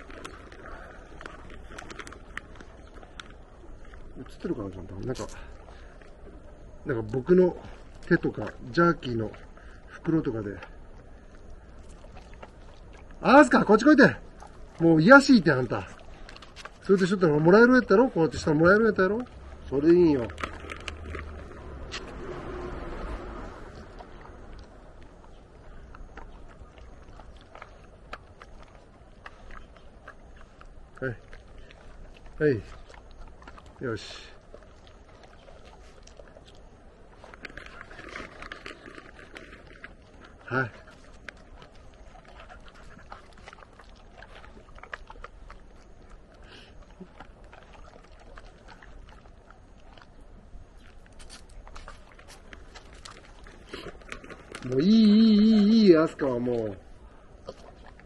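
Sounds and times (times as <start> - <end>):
dogs chewing treats: 0.0 - 58.0.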